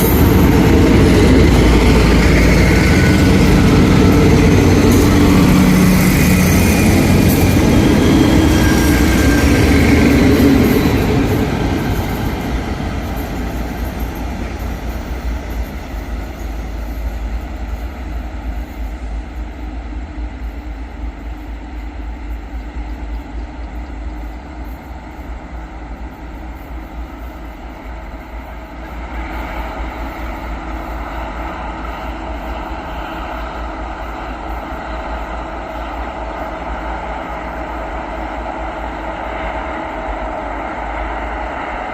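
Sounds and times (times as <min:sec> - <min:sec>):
diesel railcar train running: 0:00.0 - 0:41.9.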